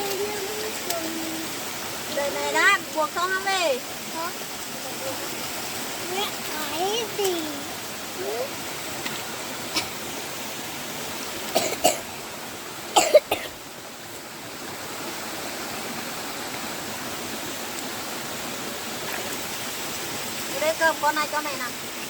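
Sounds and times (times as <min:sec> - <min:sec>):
rain falling in a forest: 0:00.0 - 0:22.0.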